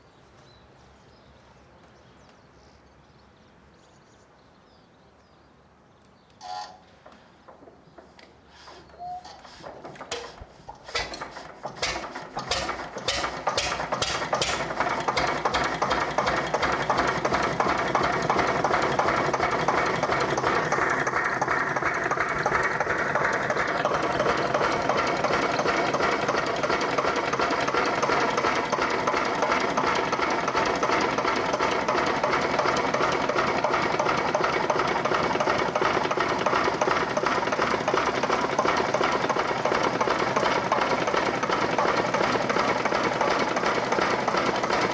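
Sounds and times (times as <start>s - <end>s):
diesel engine starting and running: 6.4s - 44.9s.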